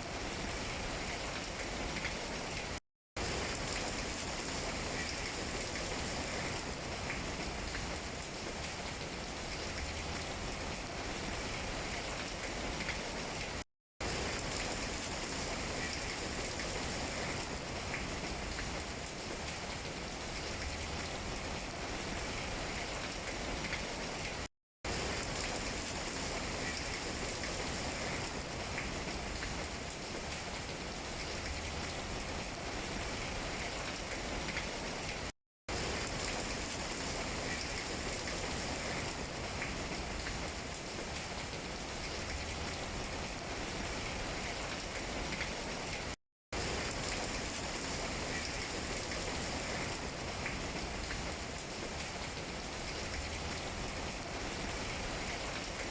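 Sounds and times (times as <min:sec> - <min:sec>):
rain falling on leaves: 0:00.0 - 0:55.9.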